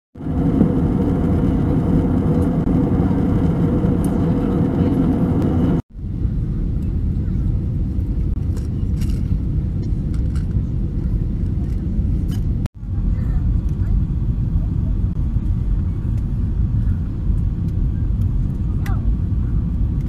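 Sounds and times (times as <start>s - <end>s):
airplane engine drone: 0.2s - 20.0s
rushing airflow: 0.2s - 20.0s.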